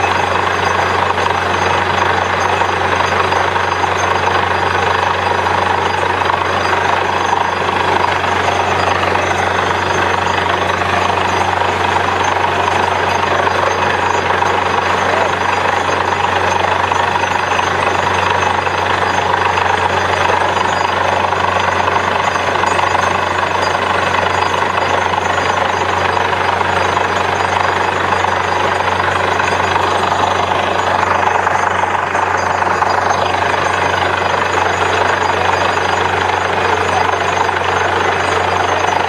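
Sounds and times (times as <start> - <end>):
drilling rig running: 0.0 - 39.0.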